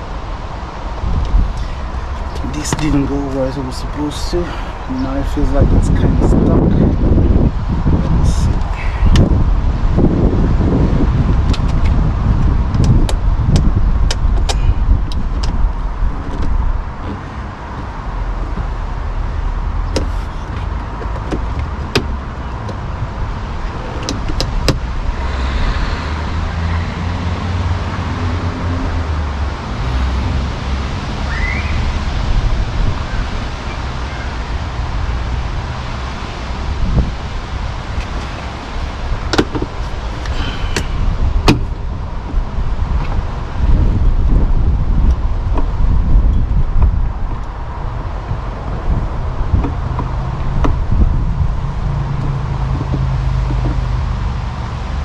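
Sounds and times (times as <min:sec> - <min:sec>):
steady low rumble: 0:00.0 - 0:33.7, 0:34.3 - 0:55.0.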